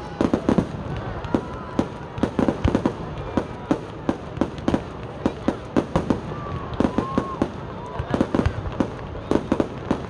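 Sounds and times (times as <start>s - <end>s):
fireworks bangs: 0.0s - 10.0s
fireworks crackle: 0.0s - 10.0s.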